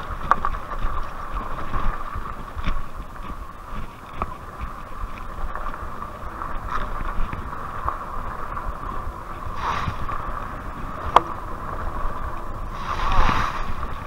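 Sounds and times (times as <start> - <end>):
bike rattling: 0.0 - 14.0
wind buffeting microphone: 0.0 - 14.0.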